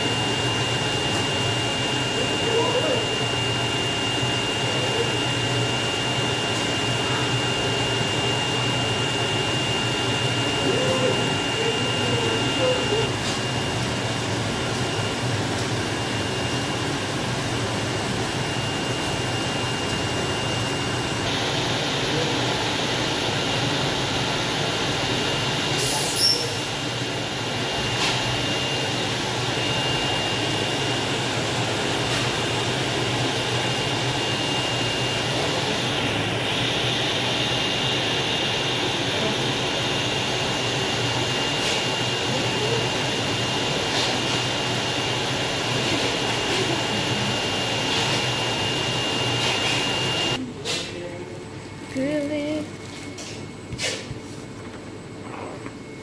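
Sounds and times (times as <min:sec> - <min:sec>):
cutting plotter whirring: 0:00.0 - 0:56.0.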